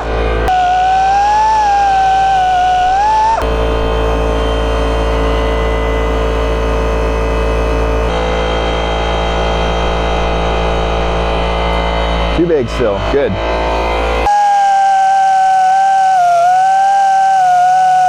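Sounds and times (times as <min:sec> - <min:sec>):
high whine: 0:00.0 - 0:18.0
motor humming: 0:00.0 - 0:18.0.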